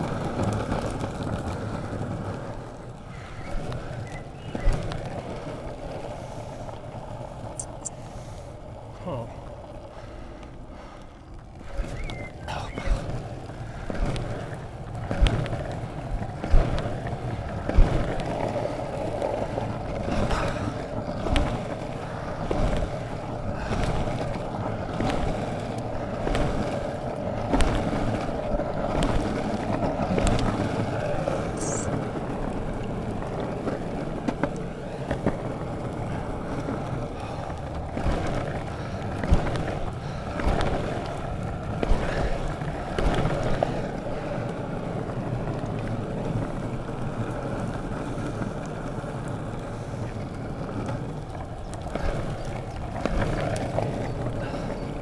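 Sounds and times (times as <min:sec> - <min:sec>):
skateboard wheels rumbling on tarmac: 0:00.0 - 0:55.0
wheels clicking over cracks: 0:00.0 - 0:55.0.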